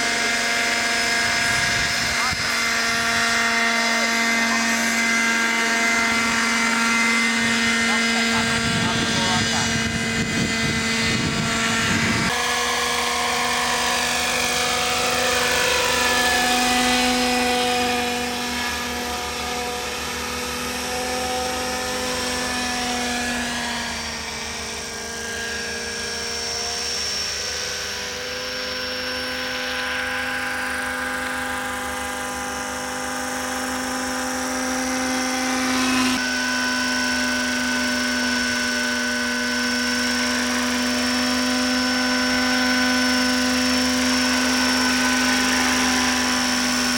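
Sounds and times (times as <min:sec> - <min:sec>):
model helicopters whining: 0:00.0 - 0:46.9.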